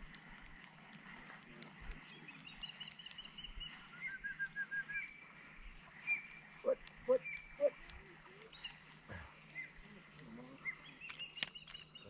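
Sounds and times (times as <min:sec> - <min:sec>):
small bird singing: 0:01.8 - 0:12.0.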